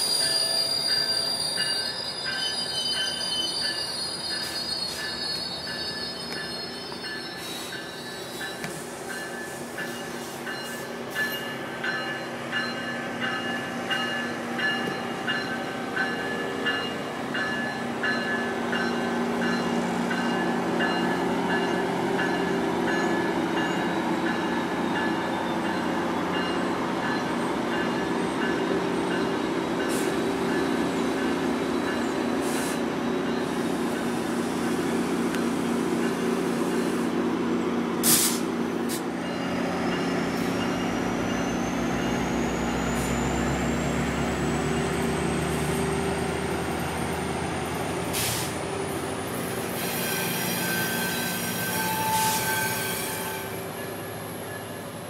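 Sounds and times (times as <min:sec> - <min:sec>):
train coaches rumbling on rails: 0:00.0 - 0:55.0.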